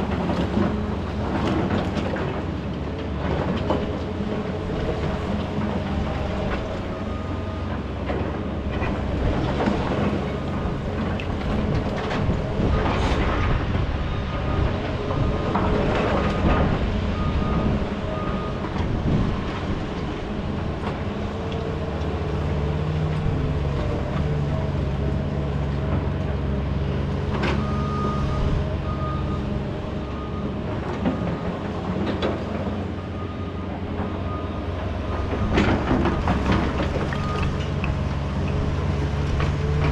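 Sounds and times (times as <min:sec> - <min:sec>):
heavy diesel equipment running: 0:00.0 - 0:39.9.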